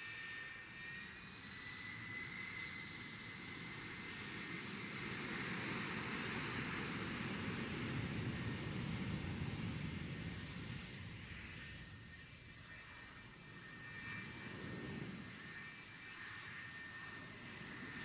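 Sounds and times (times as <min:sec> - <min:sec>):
jet engine whine and rush: 0:00.0 - 0:18.0.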